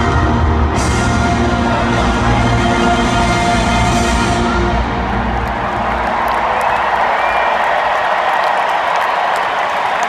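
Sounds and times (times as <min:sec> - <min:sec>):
crowd applauding and cheering: 0:00.0 - 0:10.0.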